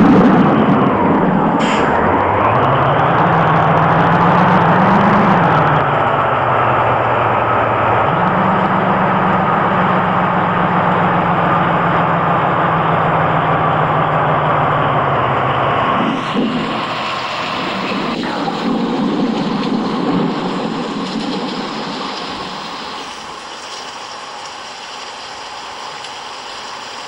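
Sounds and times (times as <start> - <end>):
heavy vehicle engine running: 0.0 - 27.0.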